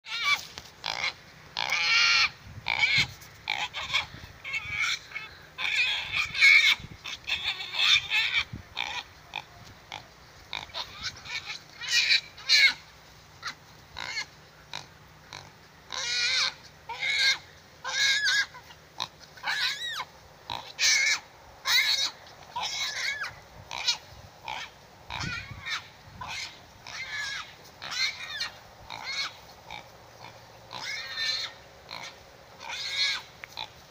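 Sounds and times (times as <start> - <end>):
pig squealing: 0.1 - 33.7.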